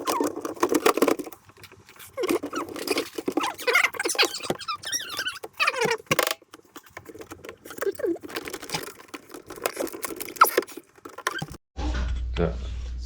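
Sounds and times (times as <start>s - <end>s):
plastic parts clicking and rattling: 0.0s - 11.6s
plastic squeaks: 0.0s - 11.6s.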